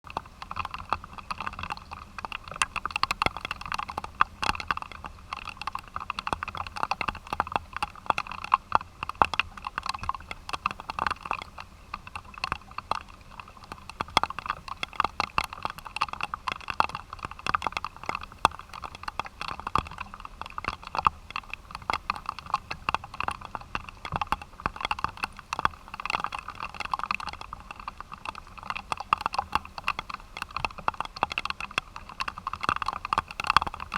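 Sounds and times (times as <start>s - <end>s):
raindrops pattering on hard surface: 0.1s - 33.9s.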